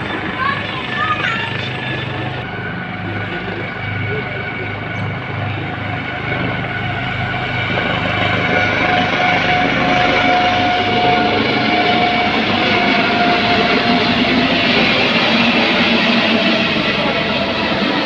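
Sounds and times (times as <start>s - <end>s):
helicopters flying overhead: 0.0s - 18.0s.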